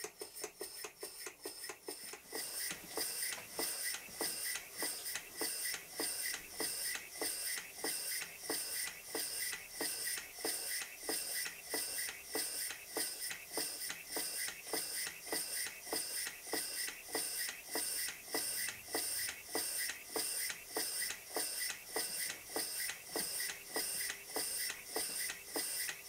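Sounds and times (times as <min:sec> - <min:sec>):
toy steam engine hissing puffs: 0:00.2 - 0:26.0.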